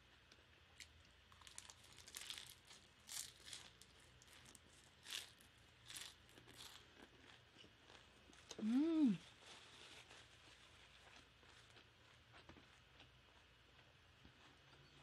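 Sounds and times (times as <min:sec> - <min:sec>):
crunchy food being chewed: 0:00.3 - 0:15.0.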